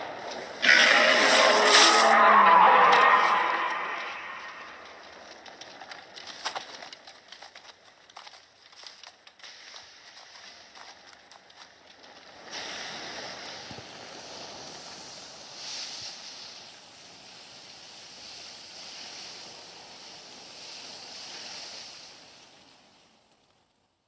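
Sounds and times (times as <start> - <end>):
fire rushing: 0.0 - 23.2.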